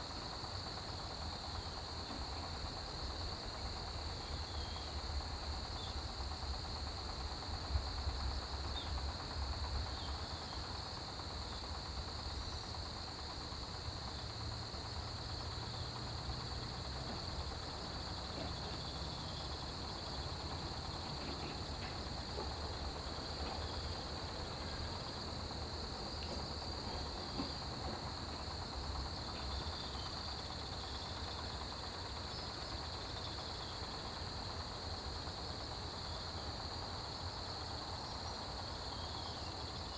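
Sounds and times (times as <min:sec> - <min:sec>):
crickets chirping: 0:00.0 - 0:39.9
insects trilling: 0:00.0 - 0:39.9.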